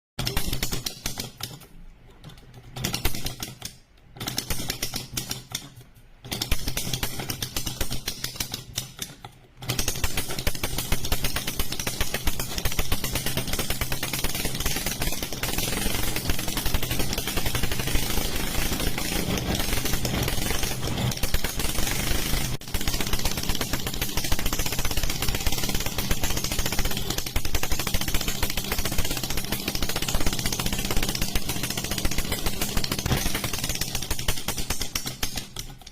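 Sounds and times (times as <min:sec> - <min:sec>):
model engine clattering: 0:02.2 - 0:35.9.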